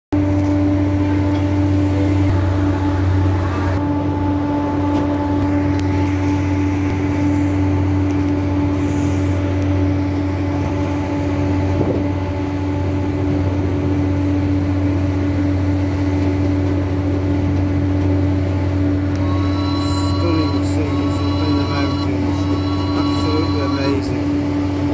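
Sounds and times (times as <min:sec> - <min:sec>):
train running low drone: 0:00.2 - 0:24.9
train whine: 0:00.2 - 0:24.9.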